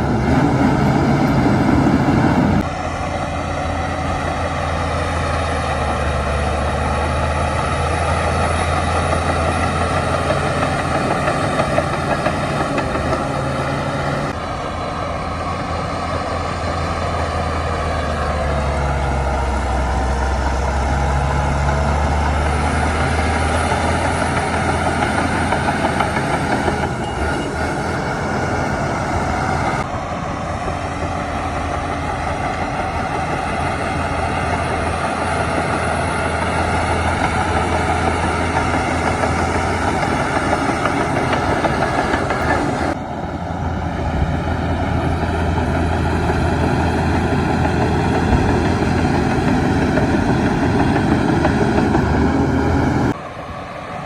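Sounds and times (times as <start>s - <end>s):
machinery clatter: 0.0s - 53.2s
bulldozer diesel engine running: 0.0s - 54.0s.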